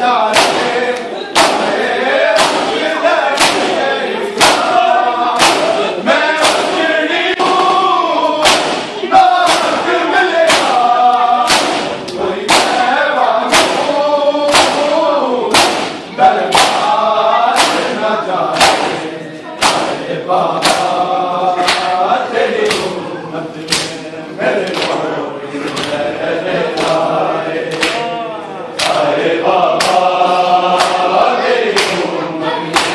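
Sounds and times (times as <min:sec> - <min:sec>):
men chanting: 0:00.0 - 0:32.9
hands slapping chests in unison: 0:00.2 - 0:23.0, 0:23.6 - 0:28.1, 0:28.7 - 0:32.9.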